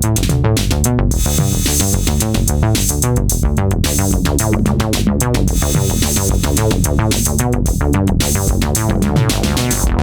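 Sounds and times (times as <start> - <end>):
drum machine beat: 0.0 - 10.0
synthesizer bass repeated notes: 0.0 - 10.0.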